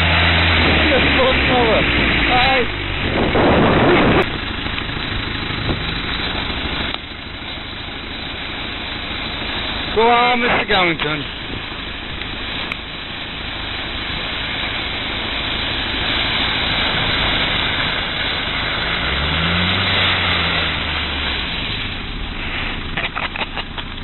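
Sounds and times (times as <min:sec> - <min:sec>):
engine accelerating: 0:00.0 - 0:24.0
water splashing: 0:00.0 - 0:24.0.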